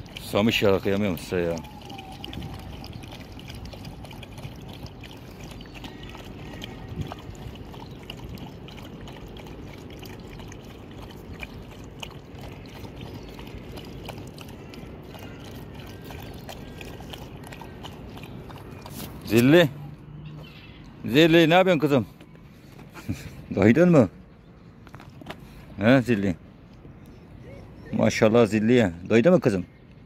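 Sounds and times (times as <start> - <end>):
dogs lapping water: 0.0 - 30.0.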